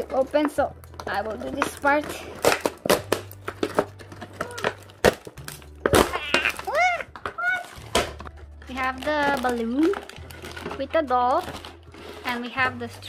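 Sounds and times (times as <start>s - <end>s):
packaging crackling and tearing: 0.0s - 13.0s.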